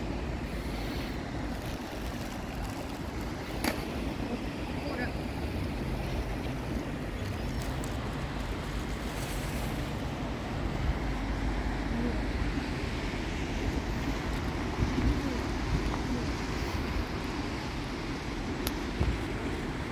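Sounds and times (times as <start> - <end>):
distant traffic: 0.0 - 19.9
wind rumbling on microphone: 0.0 - 19.9.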